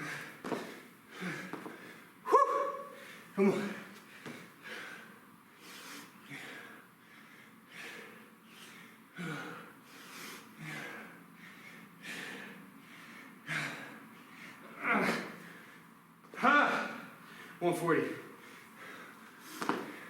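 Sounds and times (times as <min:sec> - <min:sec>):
man breathing hard: 0:00.0 - 0:17.6, 0:18.2 - 0:20.0.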